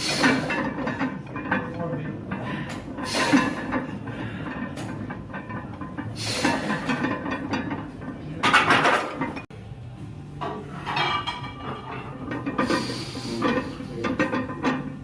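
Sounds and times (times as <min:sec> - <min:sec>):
metal gym weights clanking: 0:00.0 - 0:09.5, 0:10.4 - 0:15.0.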